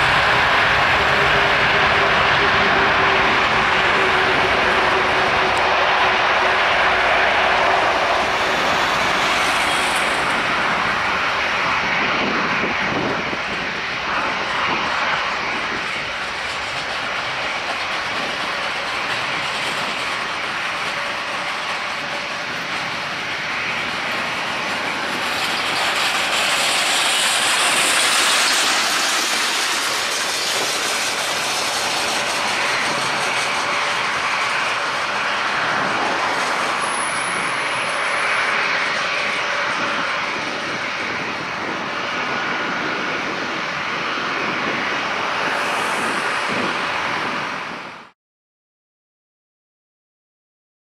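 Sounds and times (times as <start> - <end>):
jet airliner roar at takeoff: 0.0 - 48.2.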